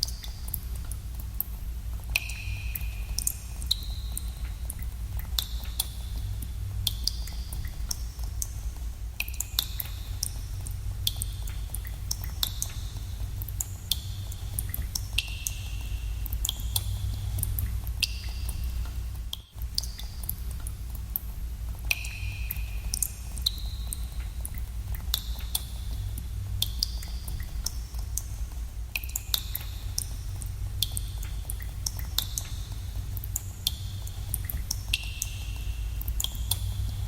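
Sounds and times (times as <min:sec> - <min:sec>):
steady low rumble: 0:00.0 - 0:37.0
water drops plinking in a cave: 0:00.0 - 0:37.0.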